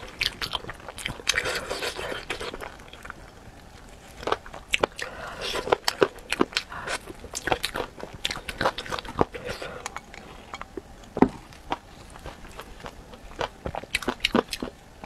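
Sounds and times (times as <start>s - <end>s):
wet crunchy chewing: 0.0s - 14.8s.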